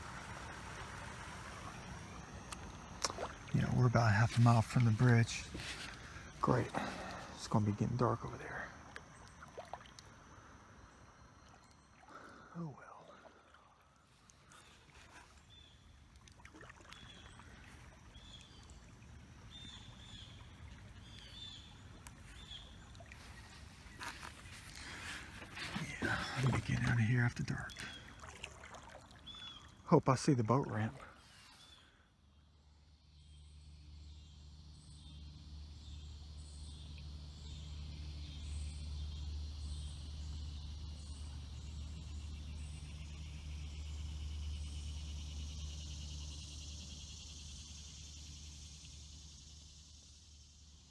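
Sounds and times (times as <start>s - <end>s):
insects chorus: 0.0s - 50.9s
low rumble of river water: 0.0s - 50.9s.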